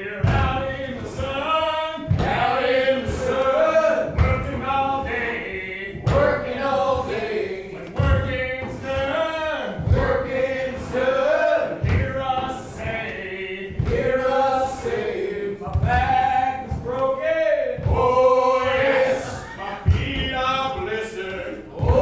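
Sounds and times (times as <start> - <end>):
low rhythmic thud: 0.0 - 22.0
men singing a cappella: 0.0 - 22.0.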